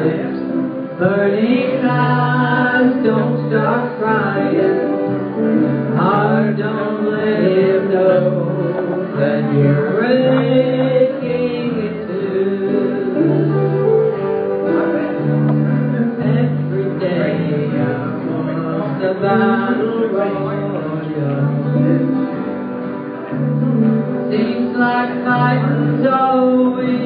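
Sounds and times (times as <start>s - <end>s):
acoustic guitars playing: 0.0s - 27.0s
bass line: 0.0s - 27.0s
person singing: 0.0s - 27.0s.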